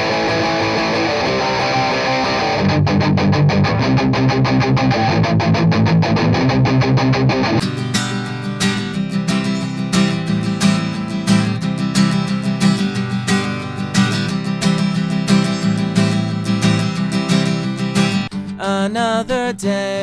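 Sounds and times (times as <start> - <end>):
electric guitar through amp: 0.0 - 18.4
acoustic guitar strummed chords: 0.0 - 20.0.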